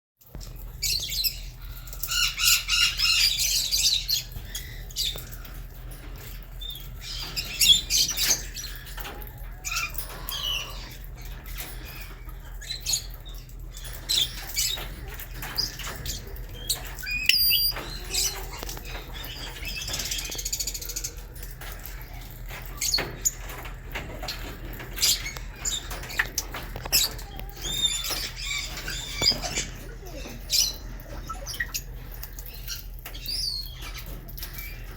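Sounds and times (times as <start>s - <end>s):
lovebirds chirping and chattering: 0.3s - 34.9s.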